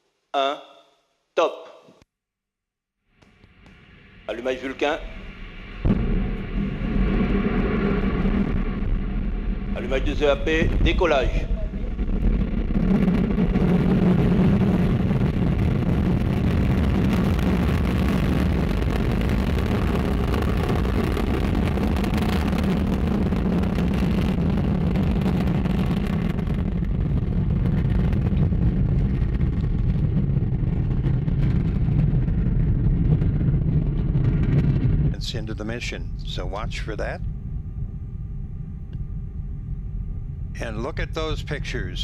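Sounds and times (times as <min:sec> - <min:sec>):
rocket engine deep rumble: 0:03.5 - 0:42.0.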